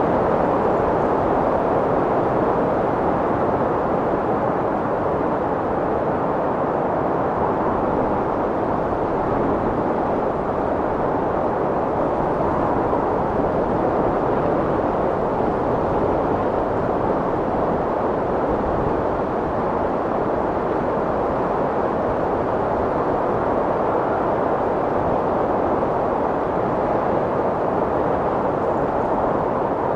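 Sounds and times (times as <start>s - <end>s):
strong wind blowing: 0.0s - 29.9s.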